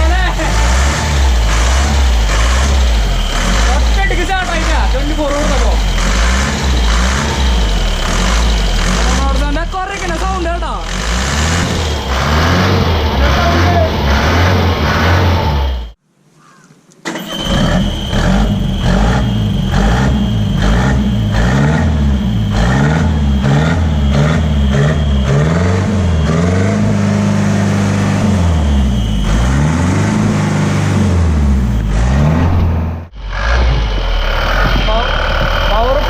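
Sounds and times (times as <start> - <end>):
diesel engine revving: 0.0 - 16.0, 17.1 - 36.0.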